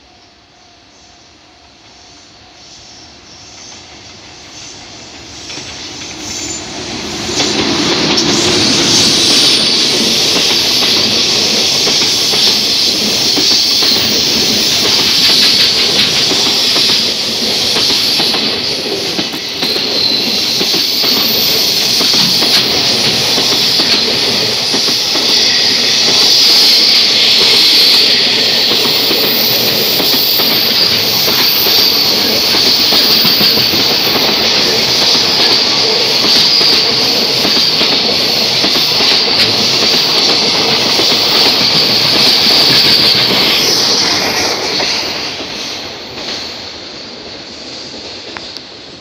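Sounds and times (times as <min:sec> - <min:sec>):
freight train passing: 0:00.0 - 0:49.0.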